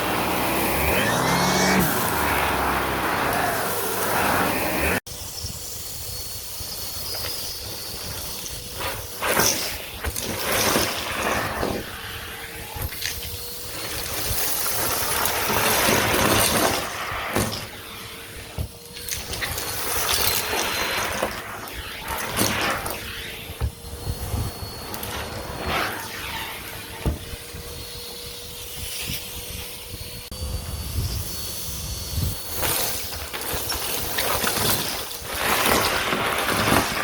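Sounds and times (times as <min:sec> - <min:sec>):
vacuum cleaner running: 0:00.0 - 0:05.0, 0:06.6 - 0:37.0.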